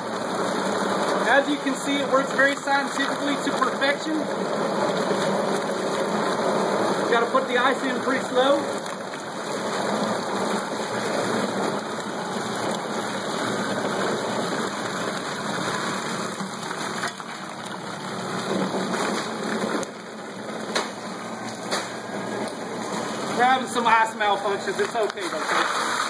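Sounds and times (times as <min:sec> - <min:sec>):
garbage disposal running: 0:00.0 - 0:26.0
liquid sloshing and splashing: 0:00.0 - 0:26.0.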